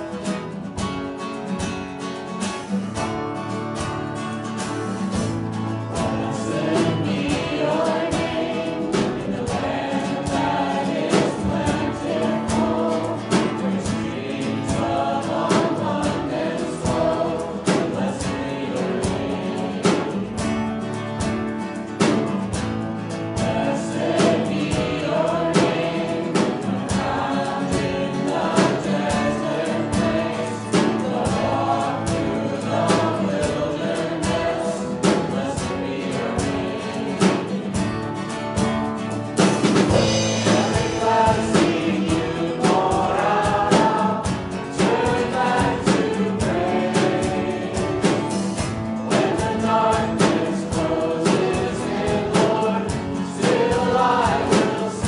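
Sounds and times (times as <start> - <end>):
band with guitar and beat: 0.0 - 55.0
congregation singing: 2.4 - 55.0.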